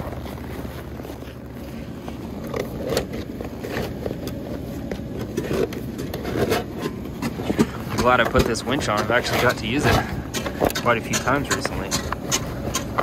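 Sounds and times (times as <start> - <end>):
fabric cover rustling and scraping: 0.0 - 10.6
steady low rumble: 0.0 - 13.0.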